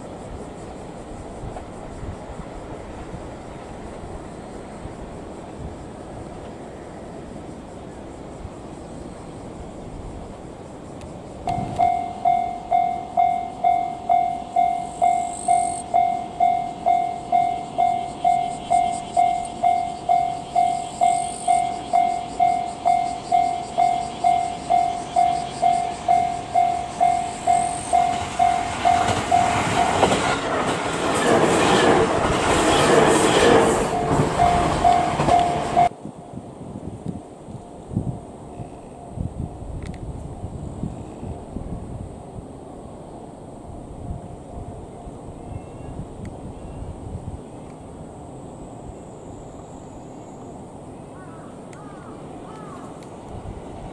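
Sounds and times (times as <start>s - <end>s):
electric train passing: 0.0s - 53.9s.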